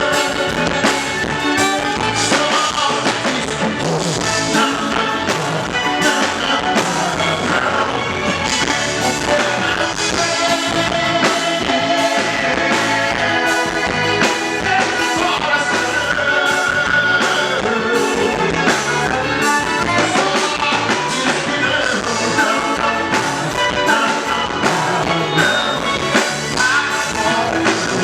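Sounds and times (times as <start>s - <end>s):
live band music: 0.0s - 28.0s.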